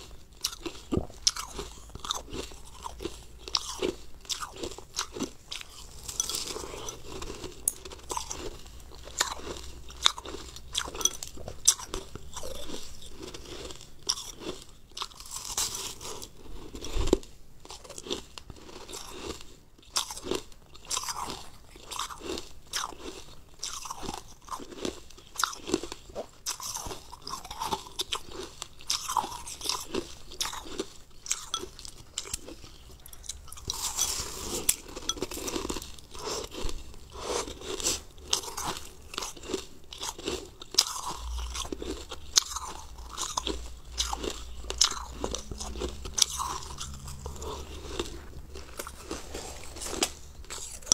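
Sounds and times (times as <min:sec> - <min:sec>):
crunching ice: 0:00.0 - 0:50.9.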